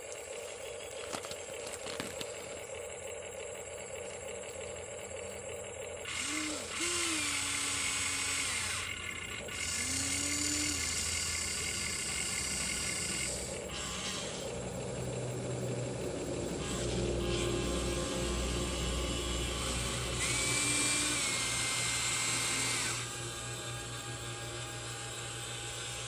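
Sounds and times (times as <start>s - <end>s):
small electric motors whirring: 0.0s - 26.0s.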